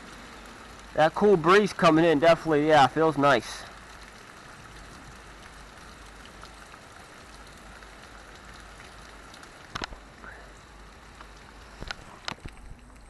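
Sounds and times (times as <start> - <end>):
heavy rain splashing: 0.0 - 13.0.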